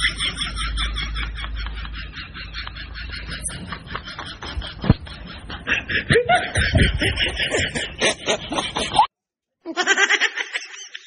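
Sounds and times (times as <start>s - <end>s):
person snickering and chuckling: 0.0s - 9.1s, 9.7s - 11.0s.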